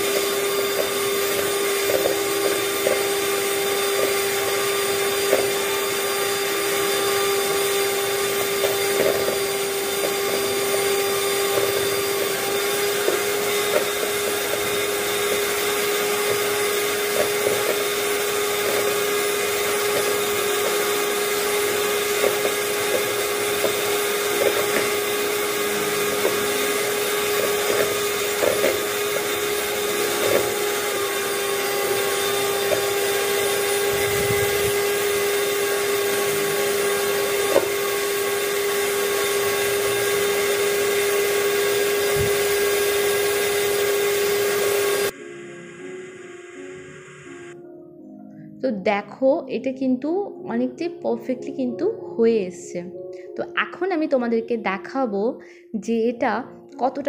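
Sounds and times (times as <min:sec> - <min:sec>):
electric hand mixer whipping cream: 0:00.0 - 0:47.6.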